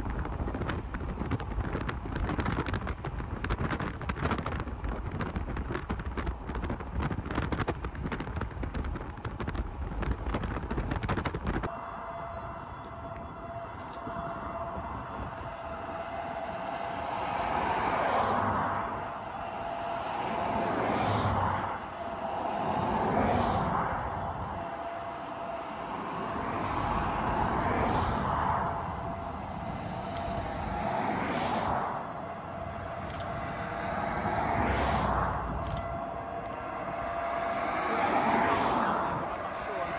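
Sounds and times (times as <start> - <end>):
cars passing on highway: 0.0 - 39.9
wind buffeting microphone: 0.0 - 39.9.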